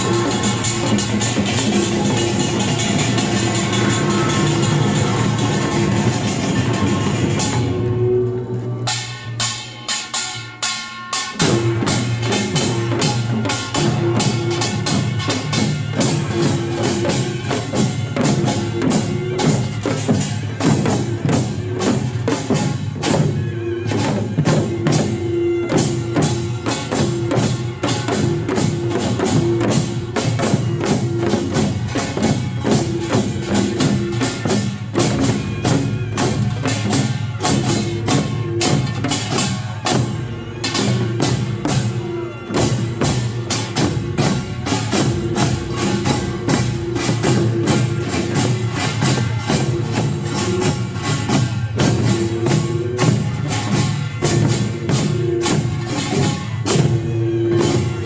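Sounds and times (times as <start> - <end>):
drums beating: 0.0 - 58.0
percussion band playing fast rhythm: 0.0 - 58.0
small gongs: 0.0 - 58.0.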